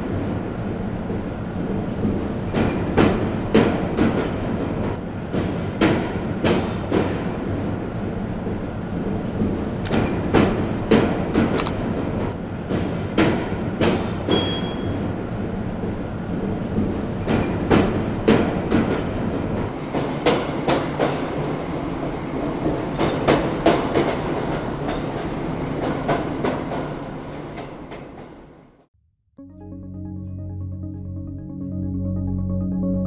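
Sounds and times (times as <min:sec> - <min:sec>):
train rumbling on rails: 0:00.0 - 0:28.8.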